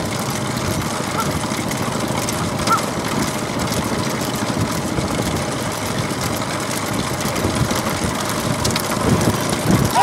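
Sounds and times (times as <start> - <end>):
road and wind noise: 0.0 - 10.0
vehicle engine running: 0.0 - 10.0.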